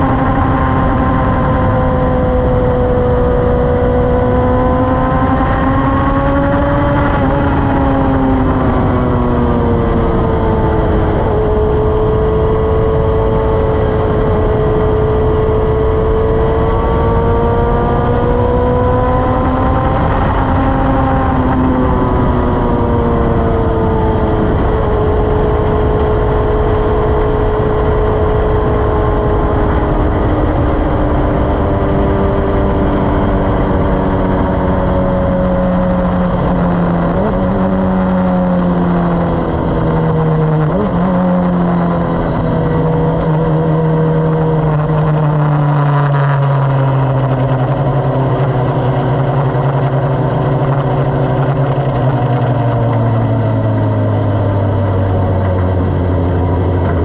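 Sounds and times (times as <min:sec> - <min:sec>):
race car engine: 0:00.0 - 0:57.0
wind noise: 0:00.0 - 0:57.0.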